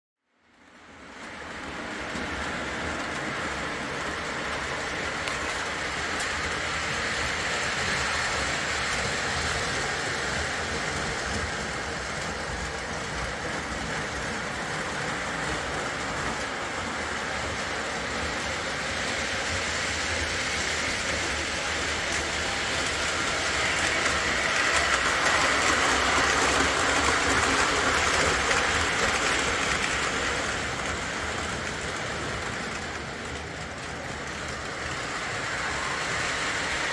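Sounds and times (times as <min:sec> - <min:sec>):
model trains running on track: 0:00.2 - 0:36.9.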